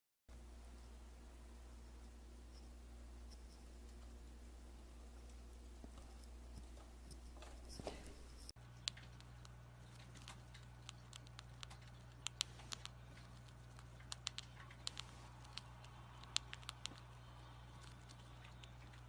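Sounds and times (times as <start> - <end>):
low electrical hum: 0.3 - 19.0.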